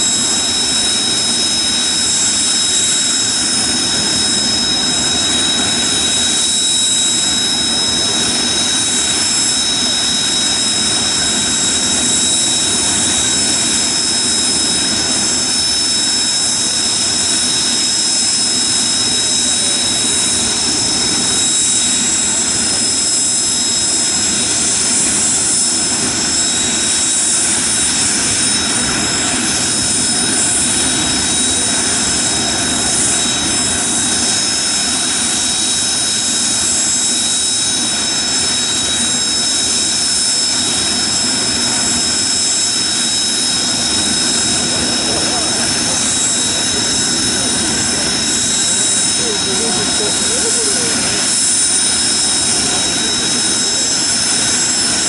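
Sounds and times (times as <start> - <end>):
high-pitched engine whine: 0.0 - 55.0
jet engines idling: 0.0 - 55.0.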